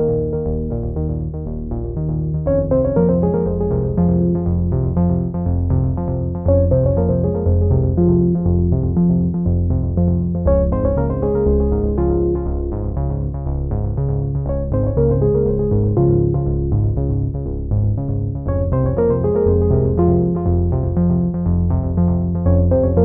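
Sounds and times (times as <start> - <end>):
background music with bass line: 0.0 - 23.0.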